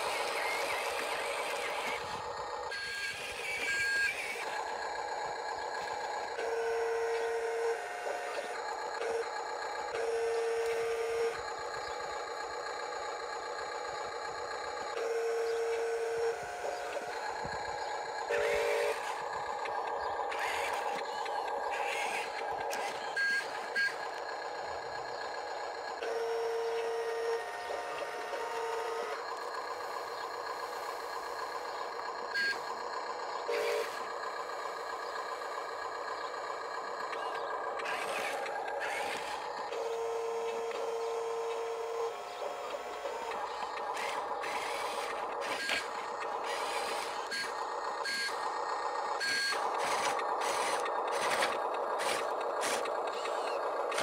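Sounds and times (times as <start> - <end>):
motor and gear whine: 0.0 - 54.0.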